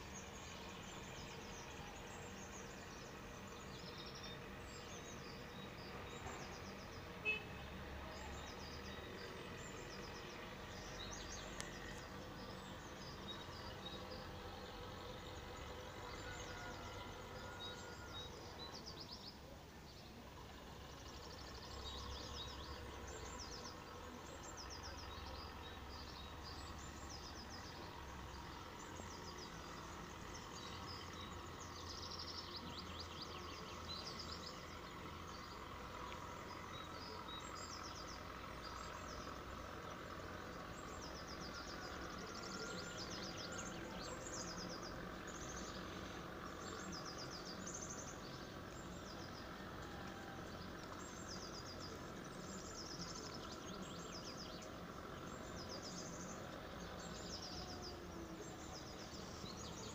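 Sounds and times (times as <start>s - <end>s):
small birds trilling: 0.0s - 59.9s.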